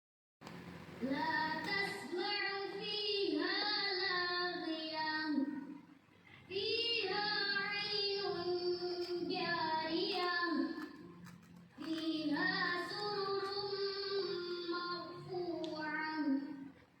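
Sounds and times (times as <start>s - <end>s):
child singing: 1.0s - 5.8s, 6.5s - 11.0s, 11.8s - 16.7s.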